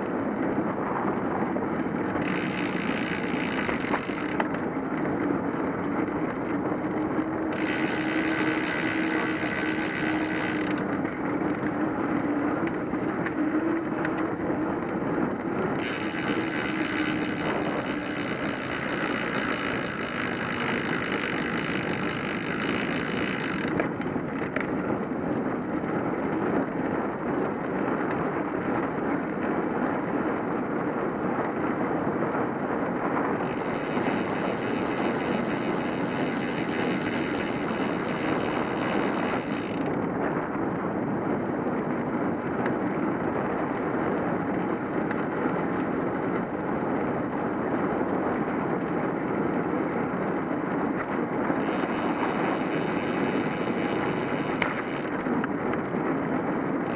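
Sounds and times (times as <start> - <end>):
bicycle road noise: 0.0 - 56.9
wind on microphone: 0.0 - 56.9.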